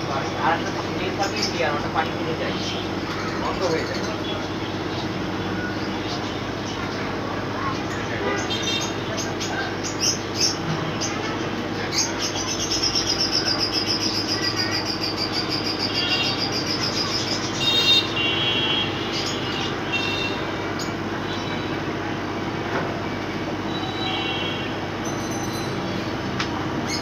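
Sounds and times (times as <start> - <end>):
birds chirping: 0.0 - 24.8, 25.5 - 27.0.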